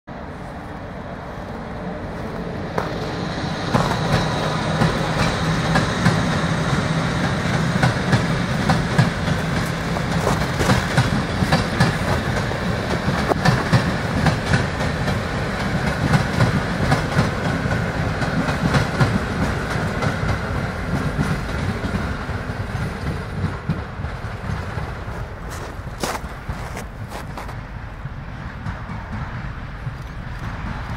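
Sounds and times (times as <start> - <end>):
diesel locomotive engine running: 0.1 - 30.9
wheels clacking over rail joints: 2.1 - 30.9.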